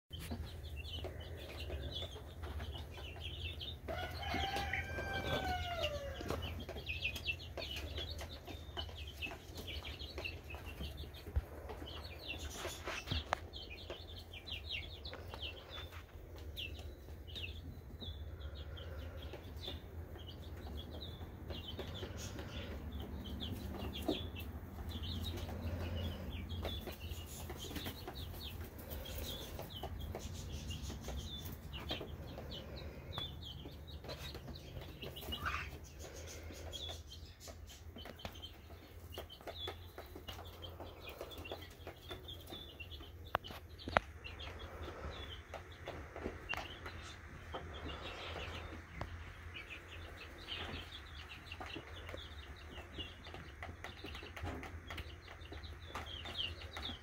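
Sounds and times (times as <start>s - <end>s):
birds chirping: 0.1s - 57.0s.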